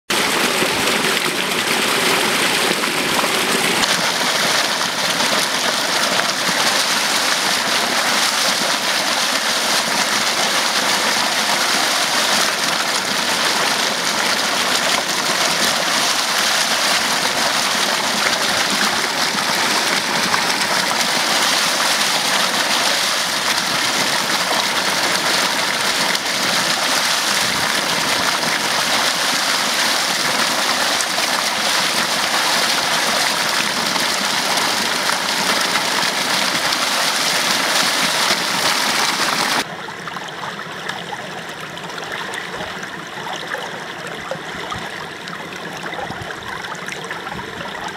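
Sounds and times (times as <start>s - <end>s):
water gushing into a pool: 0.1s - 47.9s.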